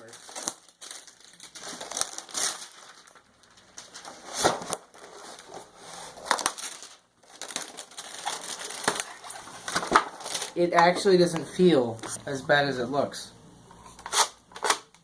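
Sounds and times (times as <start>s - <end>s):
packaging crinkling: 0.0s - 12.2s.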